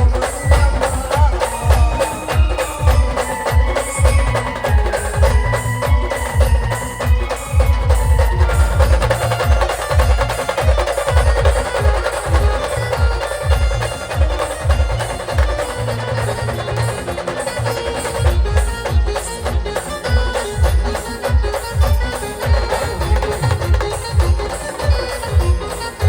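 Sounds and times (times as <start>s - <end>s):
heavy drum beats: 0.0s - 26.0s.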